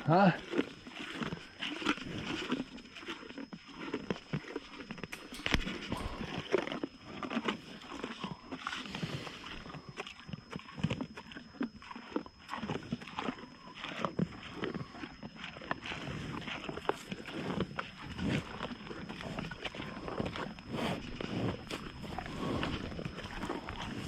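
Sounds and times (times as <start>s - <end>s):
animals chewing corn: 0.0s - 24.0s.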